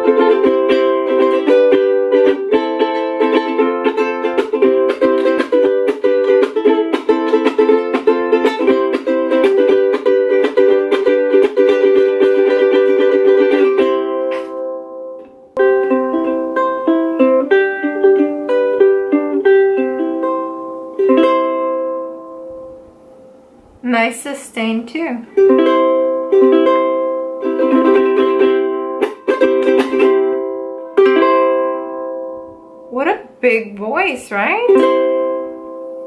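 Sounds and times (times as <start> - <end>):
ukulele strumming and picking: 0.0 - 23.5, 25.2 - 33.1, 34.5 - 36.0.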